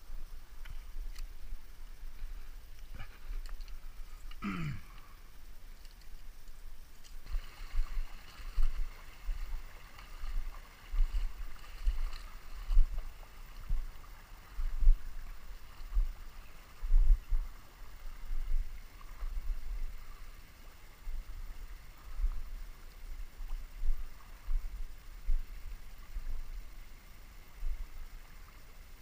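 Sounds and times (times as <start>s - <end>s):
running river water: 0.0s - 29.0s.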